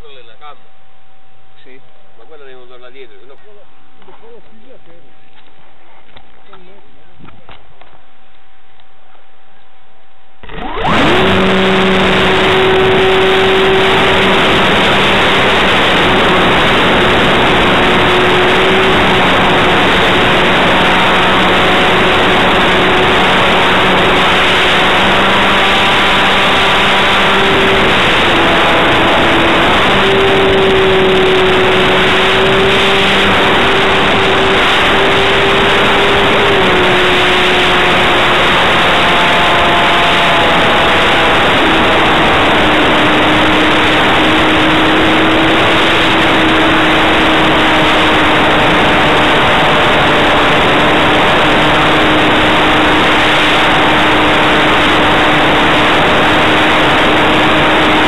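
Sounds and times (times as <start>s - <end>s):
electric motor and propeller humming: 10.2s - 58.0s
loud rushing noise: 10.4s - 58.0s.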